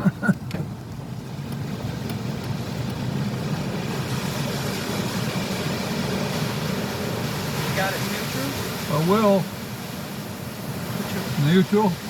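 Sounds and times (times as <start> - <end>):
car idling: 0.0 - 11.9
car wash machinery: 0.3 - 12.0.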